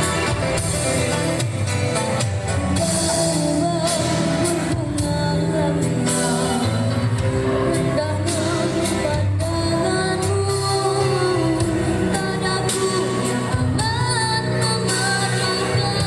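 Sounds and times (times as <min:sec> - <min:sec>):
instrumental accompaniment: 0:00.0 - 0:16.0
person singing: 0:02.7 - 0:16.0.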